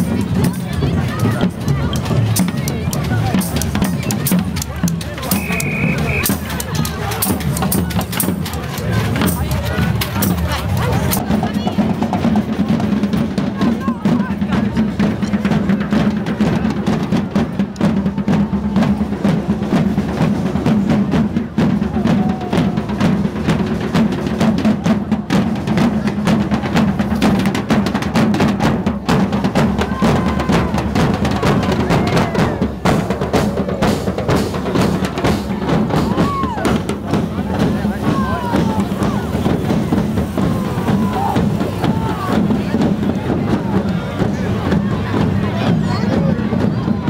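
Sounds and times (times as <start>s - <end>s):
drum band playing: 0.0s - 47.0s.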